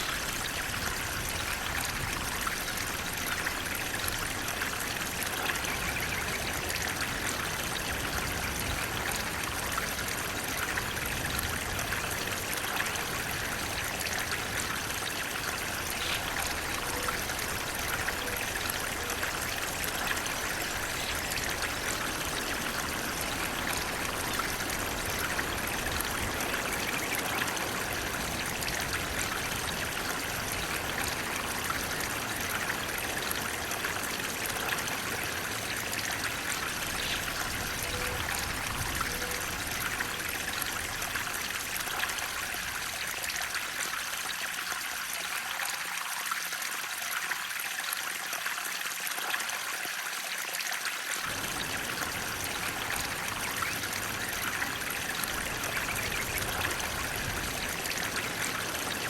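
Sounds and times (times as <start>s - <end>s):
flowing water rushing and trickling: 0.0s - 59.0s.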